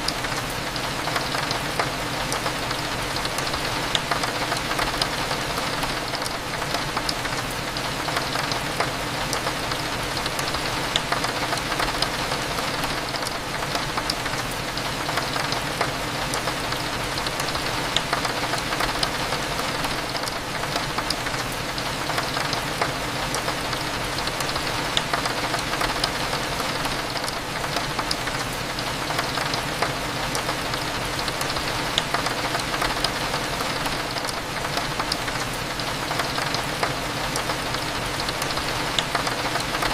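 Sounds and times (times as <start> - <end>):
rain ticking against a window: 0.0 - 39.9.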